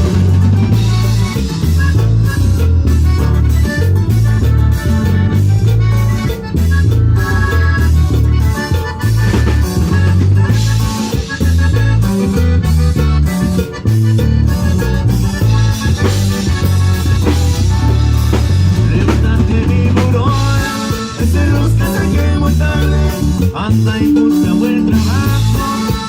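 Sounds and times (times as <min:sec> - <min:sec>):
drum kit beat: 0:00.0 - 0:26.0
live latin band playing: 0:00.0 - 0:26.0
rhythmic bass line: 0:00.0 - 0:26.0.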